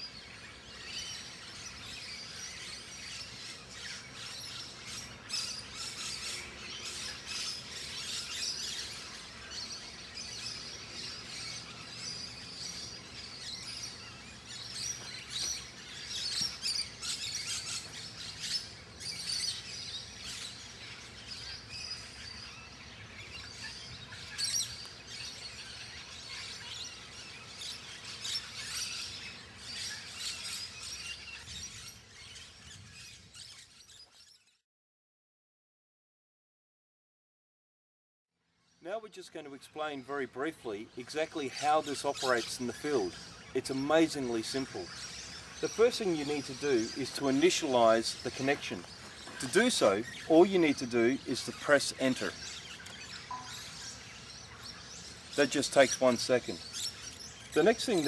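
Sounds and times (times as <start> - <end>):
birds chirping: 0.0 - 34.6, 38.5 - 58.0.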